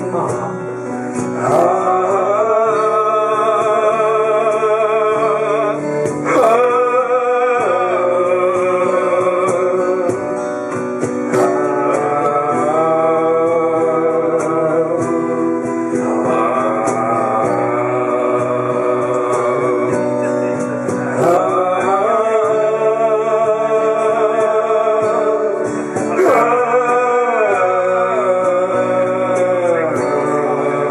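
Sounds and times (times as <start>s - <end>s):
person singing: 0.0s - 30.9s
strummed acoustic guitars: 0.0s - 30.9s.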